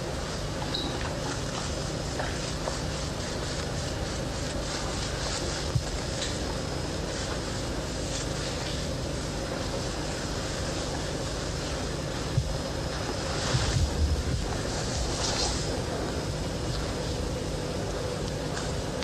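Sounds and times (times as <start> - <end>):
soundtrack hiss and hum: 0.0 - 19.0.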